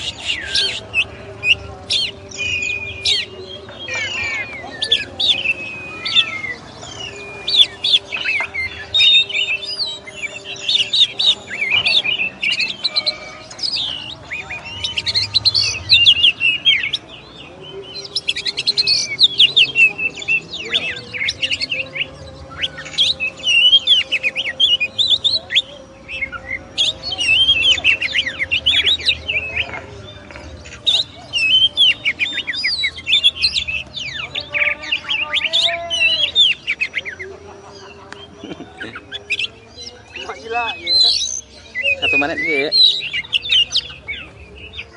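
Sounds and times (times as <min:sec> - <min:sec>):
bird singing whistles and chatter: 0:00.0 - 0:44.9.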